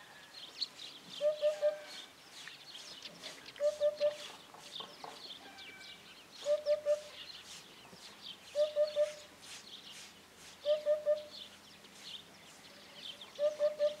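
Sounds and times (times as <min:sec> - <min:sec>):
other birds chirping: 0:00.0 - 0:14.0
hoopoe hollow song: 0:00.4 - 0:14.0.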